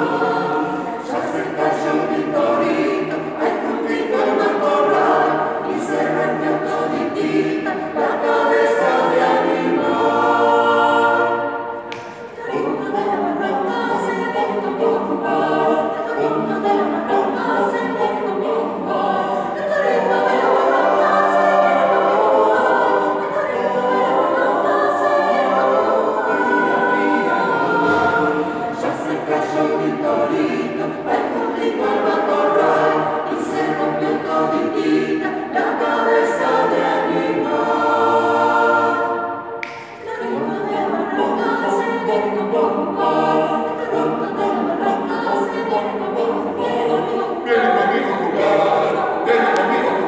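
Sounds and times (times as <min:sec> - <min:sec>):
mixed choir singing: 0:00.0 - 0:50.0.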